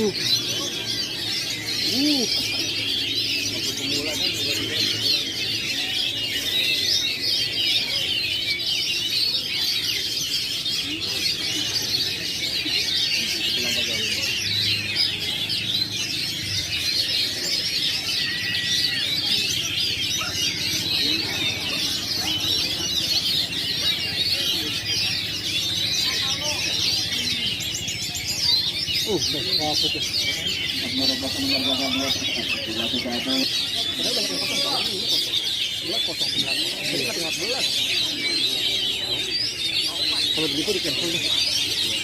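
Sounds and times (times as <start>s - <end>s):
songbirds chirping and whistling: 0.0s - 42.0s.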